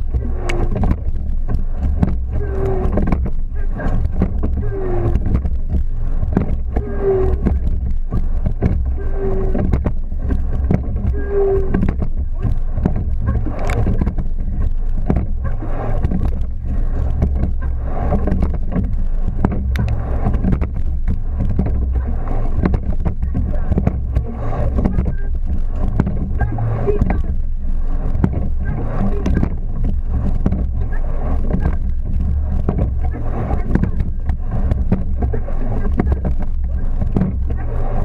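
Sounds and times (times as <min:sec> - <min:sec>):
oars knocking and clicking: 0:00.0 - 0:38.0
rumble of wind and water: 0:00.0 - 0:38.0.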